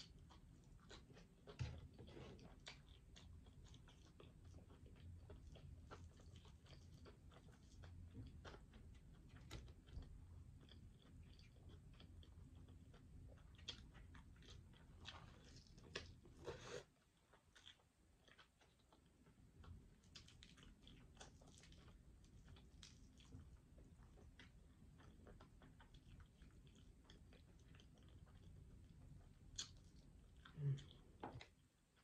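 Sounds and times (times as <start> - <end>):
chewing chicken wing: 0.0 - 32.0.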